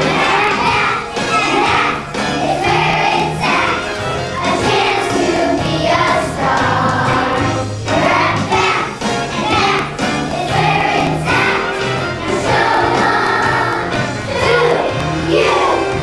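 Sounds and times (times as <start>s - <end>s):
children singing: 0.0s - 16.0s
instrumental accompaniment with bass: 0.0s - 16.0s.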